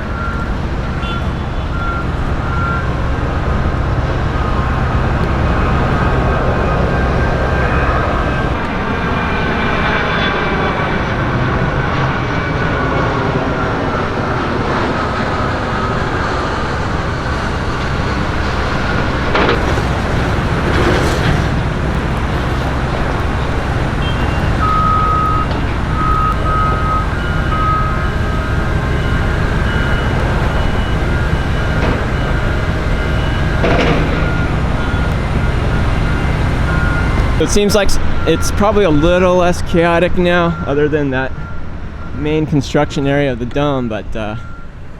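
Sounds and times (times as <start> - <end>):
heavy vehicle engines rumbling: 0.0 - 44.9
truck reversing beeper: 0.0 - 44.9.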